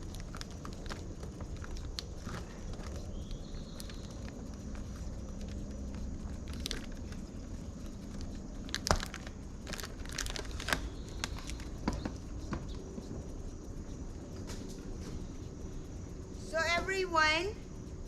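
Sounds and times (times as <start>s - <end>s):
exhaust fan clicks and rattles: 0.0s - 18.0s
steady low hum: 0.0s - 18.0s.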